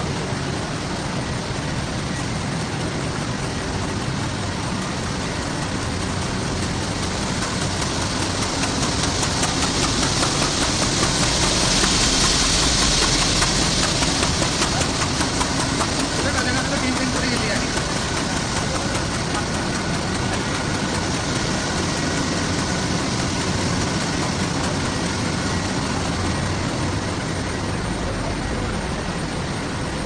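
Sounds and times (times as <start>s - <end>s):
hiss: 0.0s - 30.0s
industrial machinery drone: 0.0s - 30.0s.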